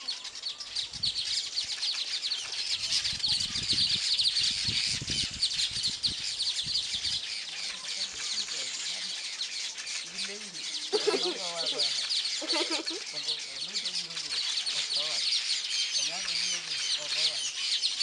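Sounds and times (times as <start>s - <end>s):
weaver birds chattering: 0.0s - 18.0s.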